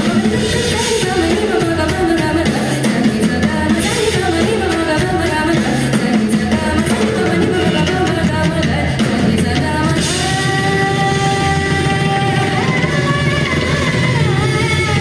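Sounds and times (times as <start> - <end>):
drum kit and barrel drum: 0.0 - 15.0
woman singing: 0.0 - 15.0.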